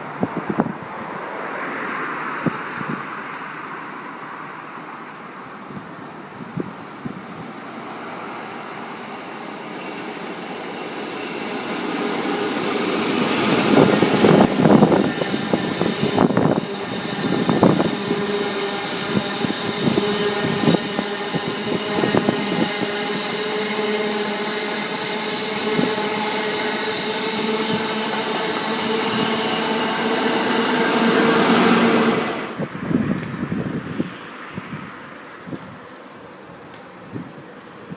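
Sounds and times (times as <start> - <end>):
train passing: 0.0 - 35.3.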